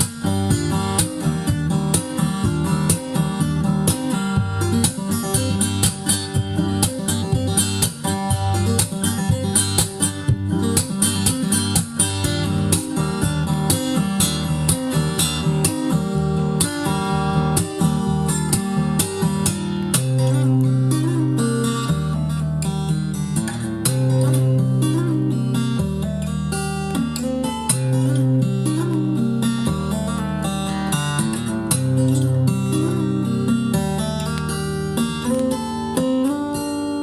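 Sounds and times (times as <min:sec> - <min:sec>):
acoustic guitar music from vinyl: 0:00.0 - 0:37.0.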